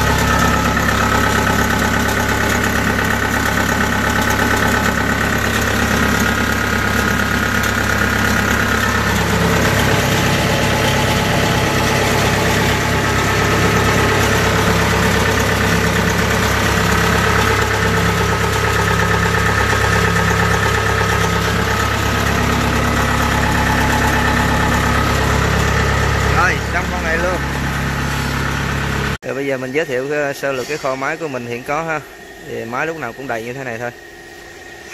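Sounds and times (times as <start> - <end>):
belt-driven pulleys turning: 0.0 - 34.9
diesel engine running steadily: 0.0 - 34.9.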